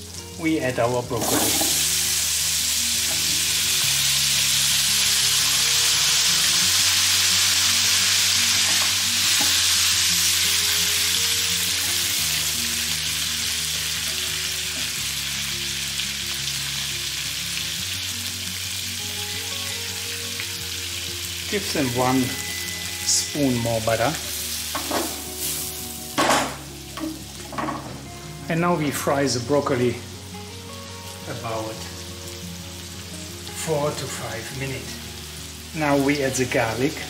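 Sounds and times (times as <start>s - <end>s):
broccoli sizzling in butter: 0.0s - 27.6s, 28.8s - 37.0s.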